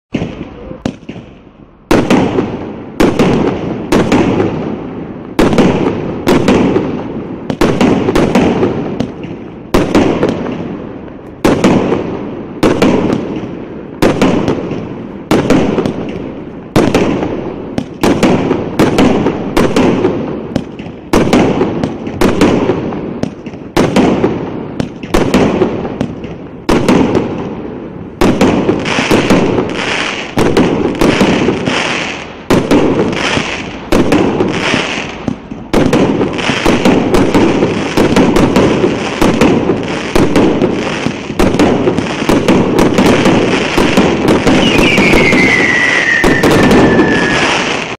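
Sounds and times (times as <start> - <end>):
fireworks bangs: 0.1 - 47.9.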